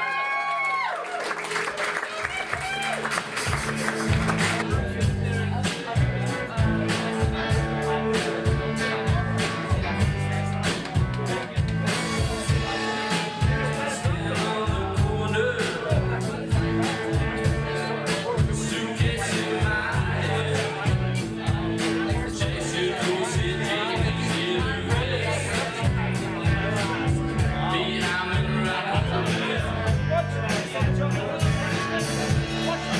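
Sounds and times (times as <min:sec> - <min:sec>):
bass guitar: 0:02.6 - 0:32.9
rock drum beat: 0:03.0 - 0:32.9
person singing: 0:03.6 - 0:32.9.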